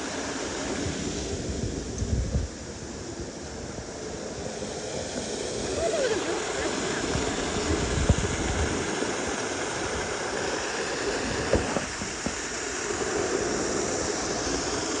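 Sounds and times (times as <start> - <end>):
waterfall rushing: 0.0 - 1.9, 2.5 - 15.0.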